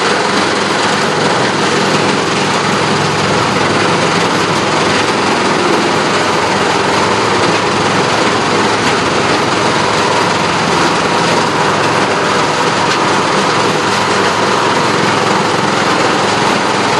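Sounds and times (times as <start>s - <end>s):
diesel engine: 0.0s - 16.9s
tub grinder running under load: 0.0s - 16.9s.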